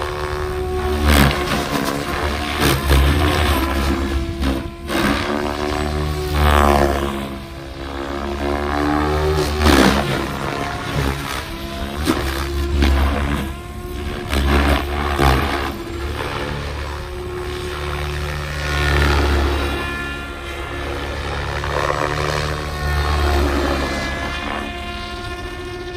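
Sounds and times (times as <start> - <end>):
motor and gear whine: 0.0 - 25.9
rotor blades whooshing: 0.0 - 25.9.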